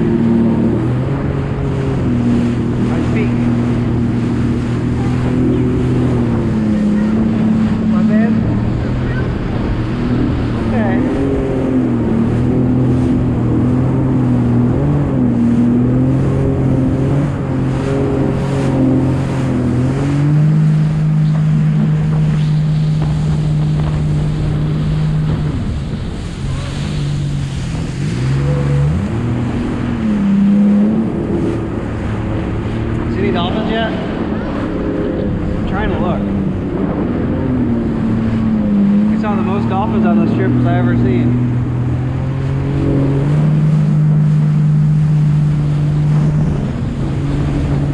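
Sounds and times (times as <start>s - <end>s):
jet ski engine running: 0.0s - 47.9s
wind buffeting microphone: 0.0s - 47.9s.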